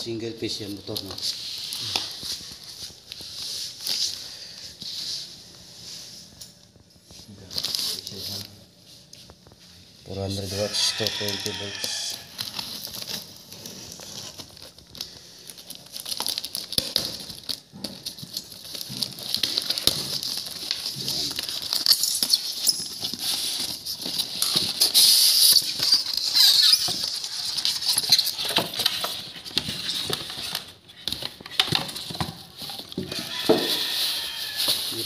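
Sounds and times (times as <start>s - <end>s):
cardboard and plastic wrapping rustling: 0.0s - 35.0s.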